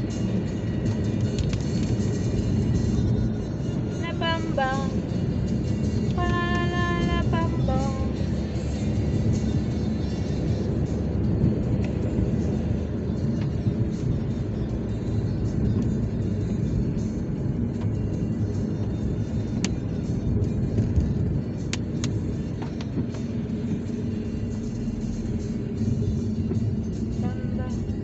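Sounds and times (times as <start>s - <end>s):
car road rumble from inside: 0.0s - 28.0s
music playing: 0.0s - 28.0s.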